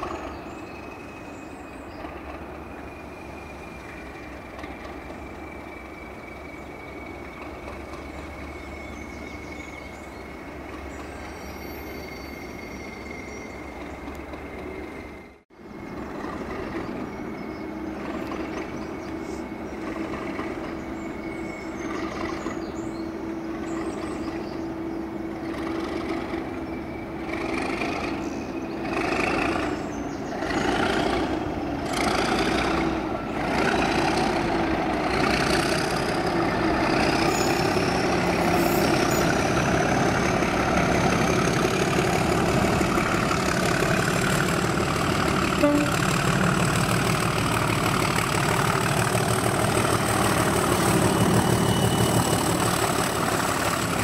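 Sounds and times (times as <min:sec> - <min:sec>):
diesel locomotive engine growling: 0:00.0 - 0:54.0.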